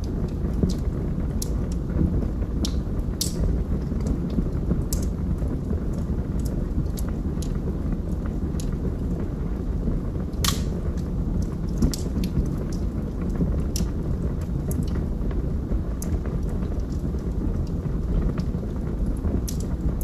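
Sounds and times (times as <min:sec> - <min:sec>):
flames rumbling: 0:00.0 - 0:20.0
logs crackling and popping: 0:00.0 - 0:20.0.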